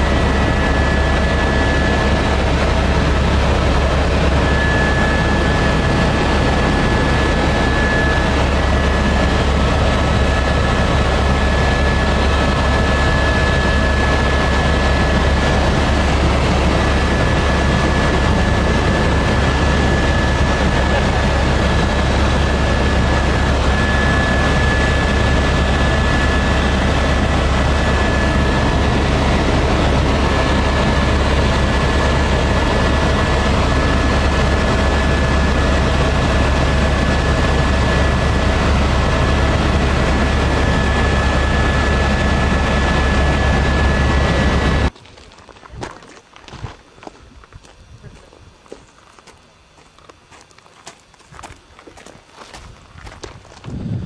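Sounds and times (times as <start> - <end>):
helicopter engine and rotor drone: 0.0 - 44.9
high whine: 0.0 - 44.9.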